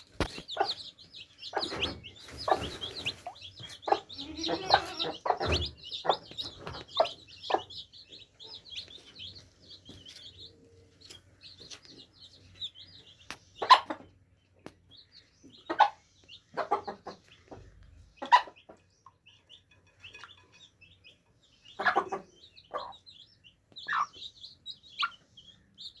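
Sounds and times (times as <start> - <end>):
chicks peeping: 0.0 - 26.0
hen clucks: 0.1 - 10.4, 12.6 - 14.3, 15.4 - 20.4, 21.5 - 26.0.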